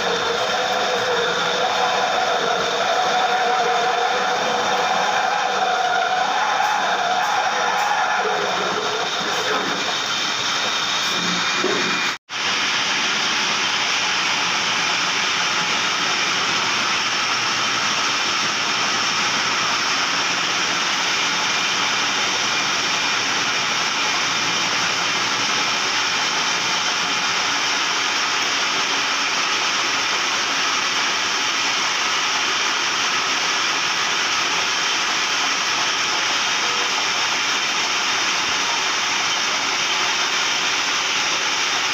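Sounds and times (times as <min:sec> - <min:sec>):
metal lathe running: 0:00.0 - 0:41.9.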